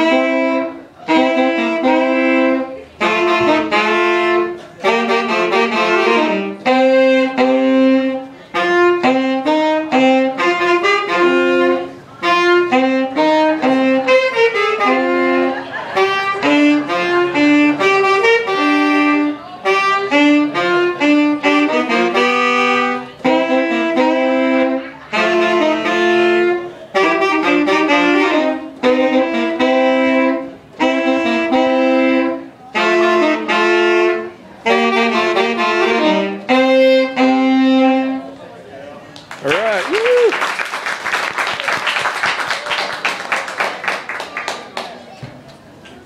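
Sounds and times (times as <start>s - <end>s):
saxophones playing jazz: 0.0s - 38.4s.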